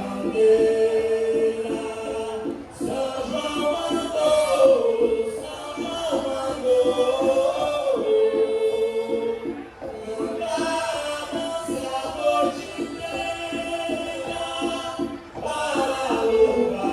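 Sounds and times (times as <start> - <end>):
folk dance song with singing: 0.0 - 16.9.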